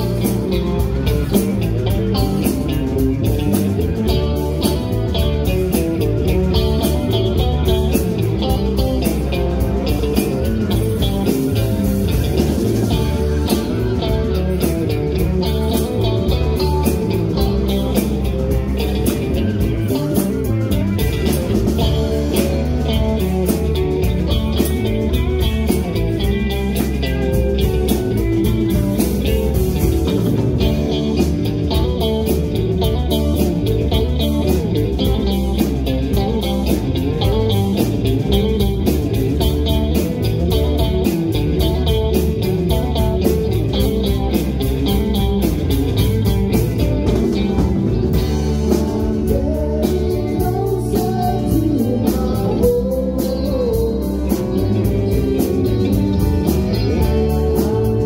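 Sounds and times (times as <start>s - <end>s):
electric guitars: 0.0s - 58.0s
live rock band playing: 0.0s - 58.0s.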